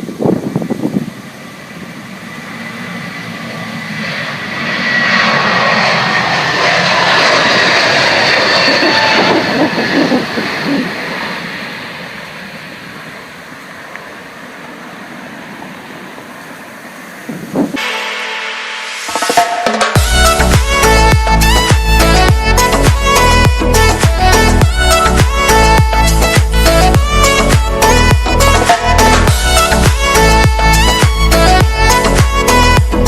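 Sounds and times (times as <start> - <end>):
high engine whine: 0.0 - 33.0
jet engines passing by: 0.0 - 33.0.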